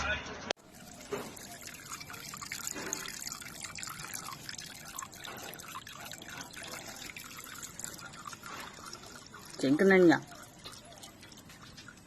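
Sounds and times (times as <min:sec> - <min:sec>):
wet dripping patter: 0:00.6 - 0:12.0.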